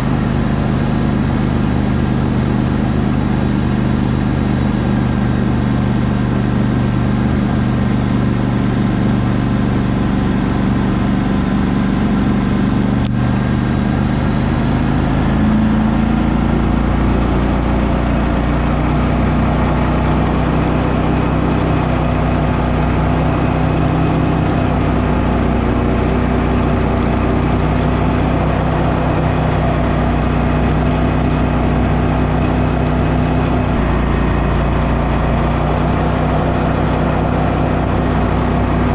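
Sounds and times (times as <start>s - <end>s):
small boat motor running: 0.0s - 38.9s
water spray along hull: 0.0s - 38.9s.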